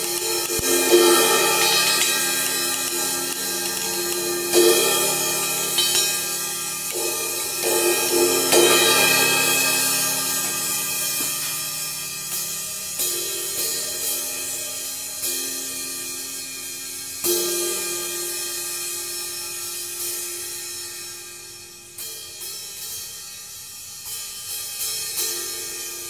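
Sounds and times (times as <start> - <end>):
crash cymbal struck with drumstick: 0.0 - 26.0.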